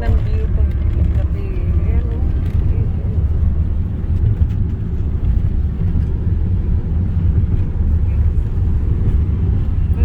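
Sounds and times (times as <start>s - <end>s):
car engine and tyre noise: 0.0s - 10.0s.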